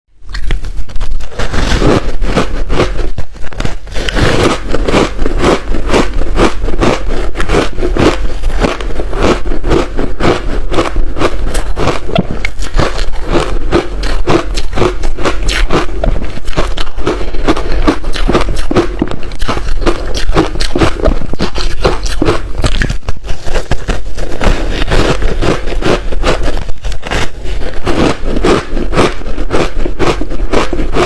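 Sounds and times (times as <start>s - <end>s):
steady low hum: 0.1s - 31.0s
ice crunching being chewed: 0.3s - 31.0s.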